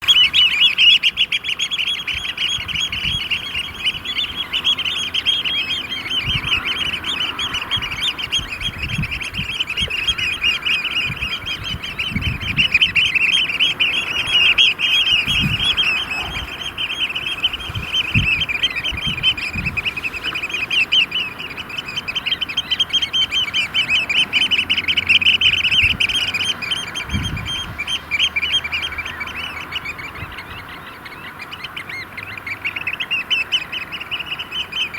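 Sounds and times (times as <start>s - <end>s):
birds piping chorus: 0.0s - 34.9s.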